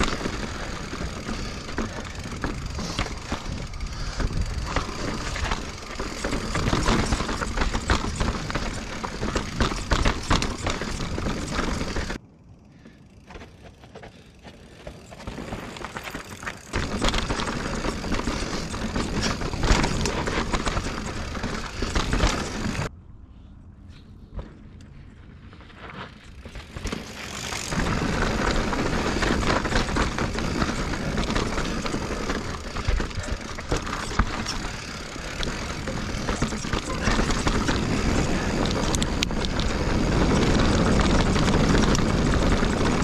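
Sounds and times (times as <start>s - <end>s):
bike rattling and clacking: 0.0s - 12.2s, 12.8s - 22.9s, 25.6s - 43.0s
tyres rumbling over rock: 0.0s - 12.2s, 15.3s - 22.9s, 26.6s - 43.0s.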